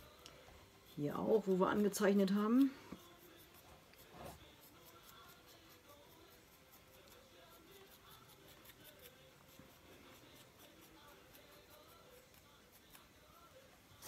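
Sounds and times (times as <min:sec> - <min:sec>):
tool scratching clay: 0:00.8 - 0:13.0.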